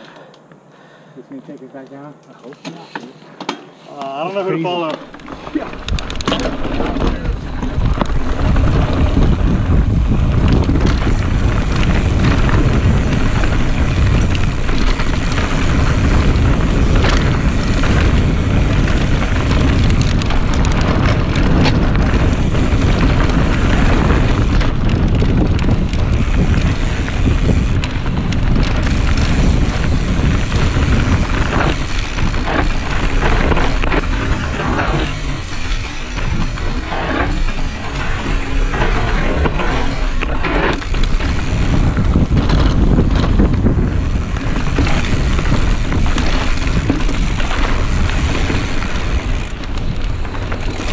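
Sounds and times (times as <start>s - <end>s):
bike rattles and knocks: 2.6s - 50.9s
tyres rumbling on rock and dirt: 4.2s - 50.9s
wind buffeting microphone: 4.6s - 50.9s.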